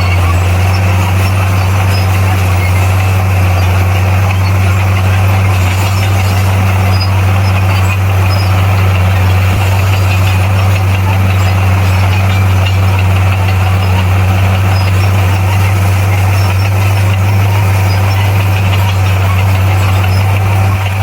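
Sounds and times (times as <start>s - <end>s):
bulldozer diesel engine droning: 0.0s - 21.0s.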